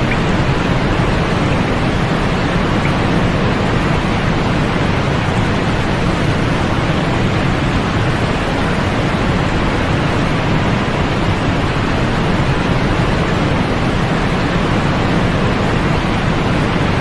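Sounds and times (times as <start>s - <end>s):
steady white noise hiss: 0.0s - 17.0s.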